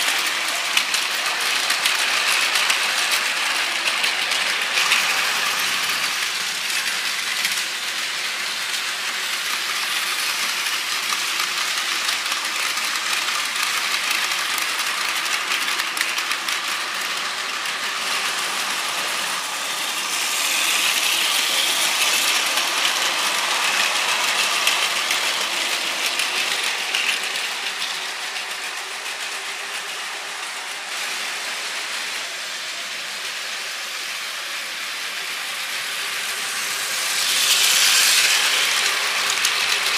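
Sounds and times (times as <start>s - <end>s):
wheels clicking over track joints: 0.0s - 30.1s, 35.7s - 39.9s
toy train motor whirring: 0.0s - 39.9s.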